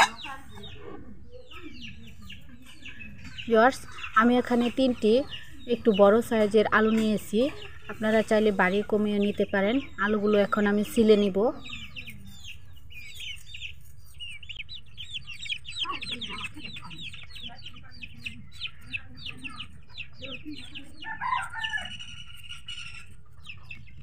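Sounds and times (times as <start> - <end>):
chickens clucking: 0.0 - 24.0
chicks peeping: 0.0 - 24.0.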